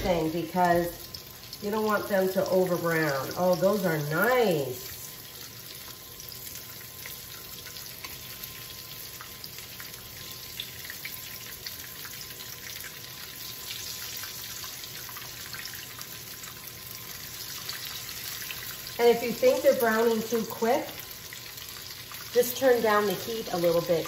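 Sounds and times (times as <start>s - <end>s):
chicken frying in oil: 0.0s - 24.0s.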